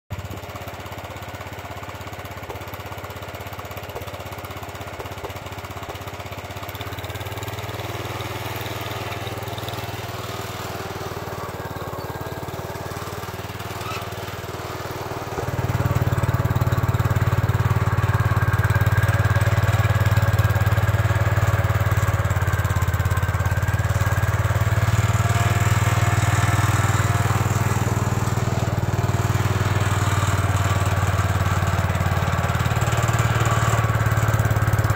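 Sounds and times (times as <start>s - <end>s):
walk-behind tractor engine running: 0.1s - 34.9s.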